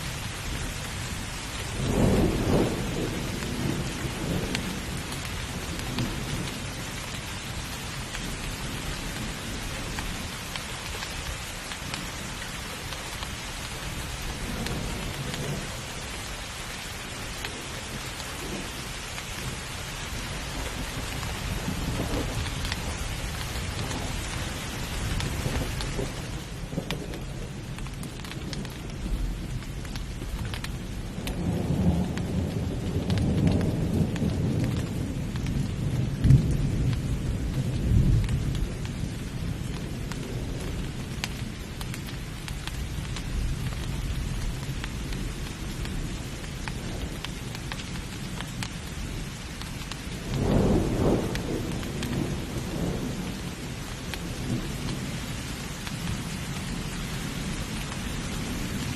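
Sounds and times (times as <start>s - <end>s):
heavy rain hissing: 0.0s - 58.9s
thunder rumbling: 0.0s - 58.9s.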